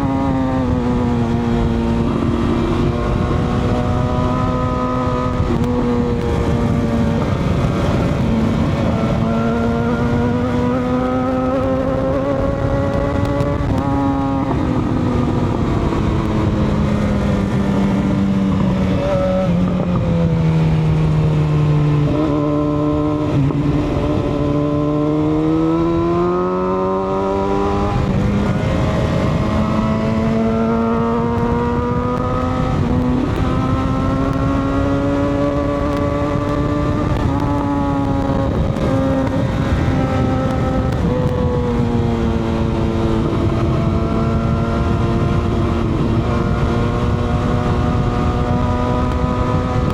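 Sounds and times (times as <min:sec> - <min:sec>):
motorcycle engine running: 0:00.0 - 0:26.3, 0:27.0 - 0:49.9
wind and road noise: 0:00.0 - 0:49.9.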